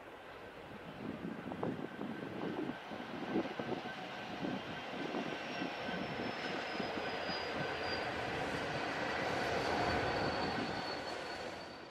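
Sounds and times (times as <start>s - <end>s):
freight train rumbling on rails: 0.0s - 11.9s.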